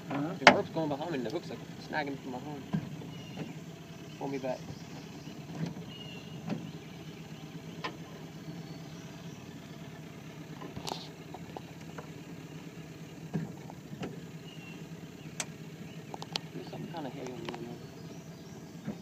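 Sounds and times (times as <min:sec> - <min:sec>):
boat motor idling: 0:00.0 - 0:19.0.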